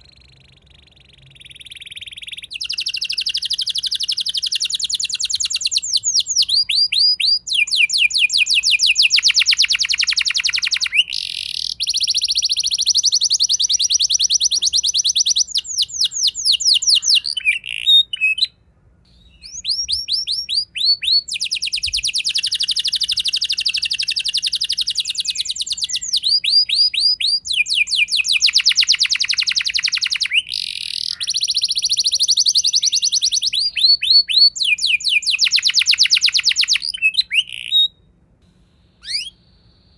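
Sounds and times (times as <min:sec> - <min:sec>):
canary singing trills: 0:00.0 - 0:38.1, 0:38.8 - 0:39.9.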